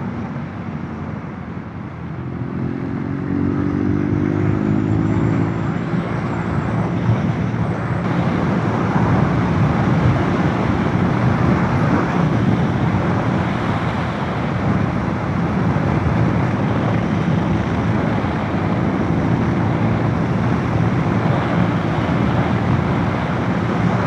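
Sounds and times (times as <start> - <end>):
motorcycle road noise: 0.0 - 24.0
wind rush: 0.0 - 24.0.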